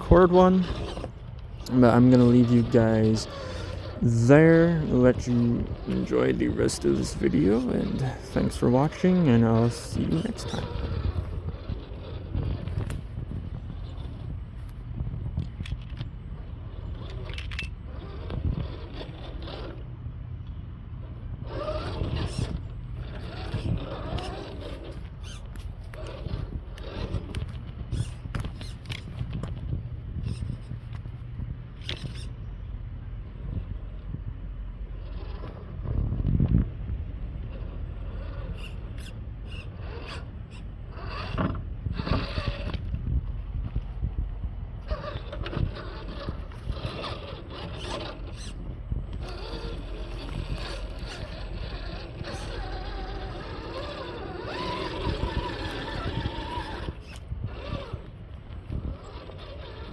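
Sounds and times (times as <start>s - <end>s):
tyres and chassis scraping and clicking: 0.0s - 59.9s
wavering whine: 0.0s - 59.9s
wind rumbling on microphone: 0.0s - 59.9s.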